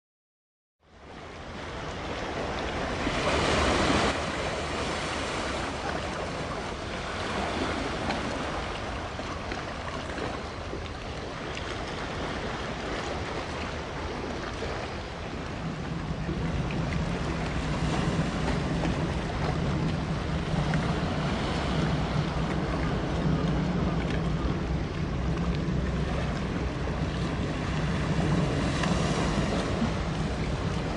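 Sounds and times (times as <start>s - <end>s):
water on shore: 0.8s - 30.9s
low engine hum: 0.9s - 30.9s
wind on microphone: 1.0s - 30.9s.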